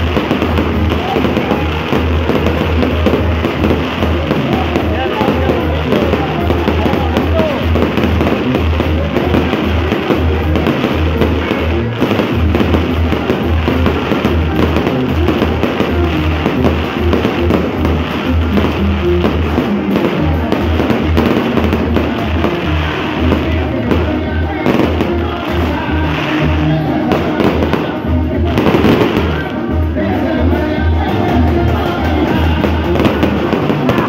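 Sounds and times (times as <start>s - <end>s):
fireworks crackling and banging: 0.0s - 34.0s
music playing: 0.0s - 34.0s.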